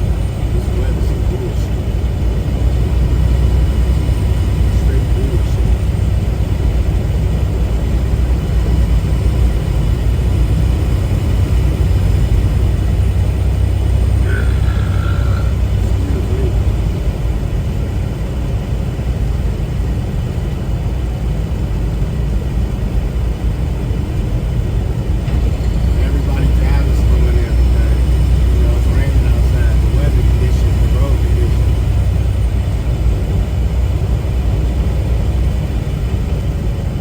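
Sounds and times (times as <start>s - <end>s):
road noise: 0.0s - 20.7s, 23.5s - 37.0s
truck engine drone: 0.0s - 37.0s.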